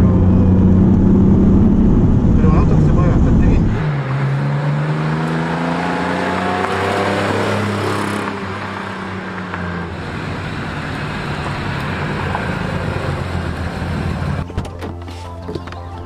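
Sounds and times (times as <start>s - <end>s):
car engine driving by: 0.0s - 14.5s.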